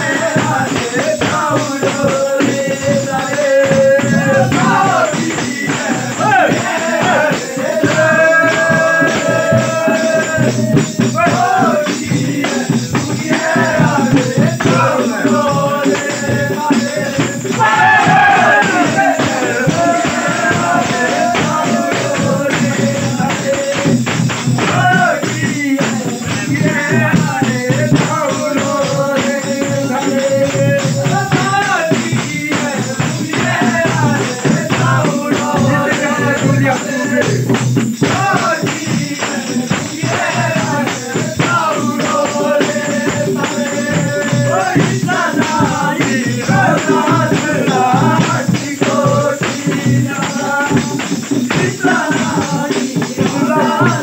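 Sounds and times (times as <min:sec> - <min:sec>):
person singing folk song: 0:00.0 - 0:54.0
steady percussion beat: 0:00.0 - 0:54.0.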